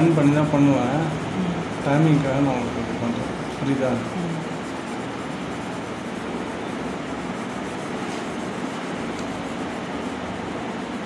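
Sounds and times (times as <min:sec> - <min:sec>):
tissue rubbing on paper: 0:00.0 - 0:11.0.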